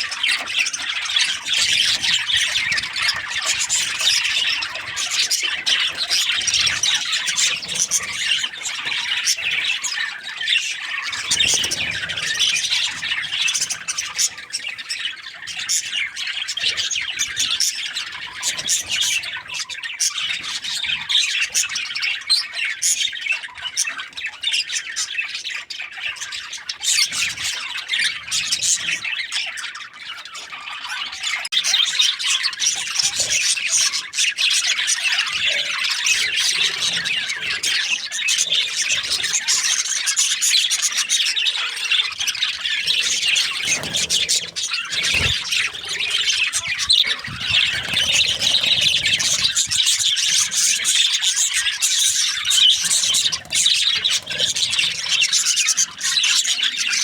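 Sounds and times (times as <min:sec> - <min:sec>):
budgerigars chattering and squawking: 0:00.0 - 0:57.0.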